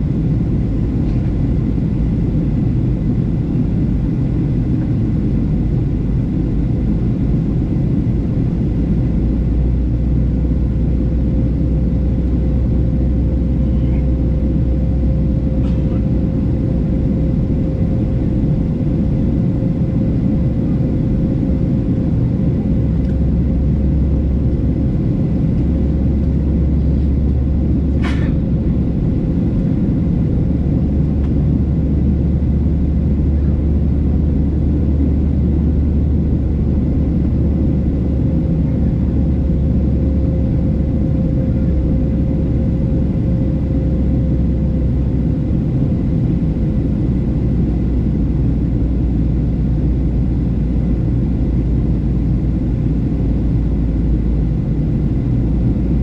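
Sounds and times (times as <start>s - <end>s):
constant hum: 0.0s - 56.0s
jet engine cabin rumble: 0.0s - 56.0s.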